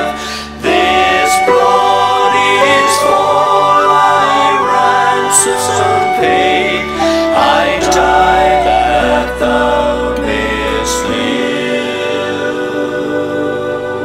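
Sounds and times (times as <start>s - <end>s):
hymn singing: 0.0s - 14.0s
instrumental accompaniment: 0.4s - 13.3s.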